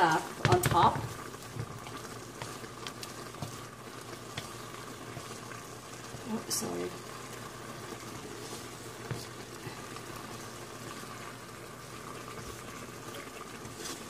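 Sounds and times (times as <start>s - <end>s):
sauce simmering in a wok: 0.0s - 14.0s.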